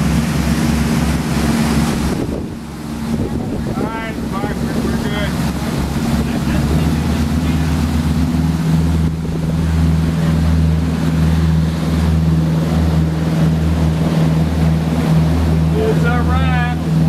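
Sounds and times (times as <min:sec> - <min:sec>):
wind on microphone: 0:00.0 - 0:15.9
motorboat engine humming: 0:00.0 - 0:17.0
water rushing past hull: 0:00.0 - 0:17.0.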